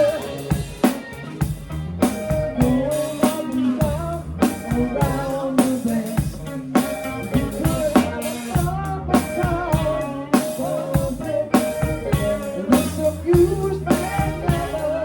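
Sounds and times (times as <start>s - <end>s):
drum kit beat: 0.0s - 15.0s
guitar: 0.0s - 15.0s
person singing: 0.0s - 15.0s.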